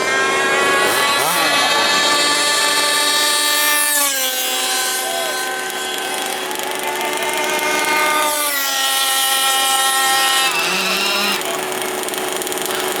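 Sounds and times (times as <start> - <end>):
rc car two-stroke engine whine: 0.0 - 13.0.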